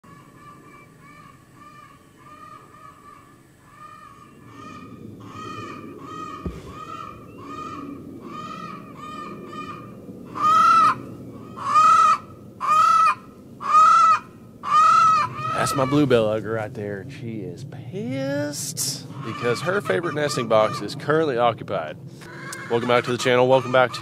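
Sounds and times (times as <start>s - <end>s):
hen squawking: 0.1s - 16.0s, 19.0s - 21.0s, 22.2s - 24.0s.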